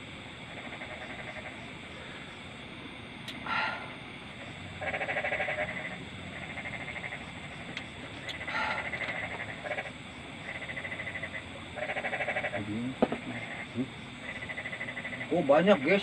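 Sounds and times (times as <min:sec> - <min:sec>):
frogs trilling: 0:00.0 - 0:16.0
bleat-like frog calls: 0:00.6 - 0:01.8, 0:03.4 - 0:16.0.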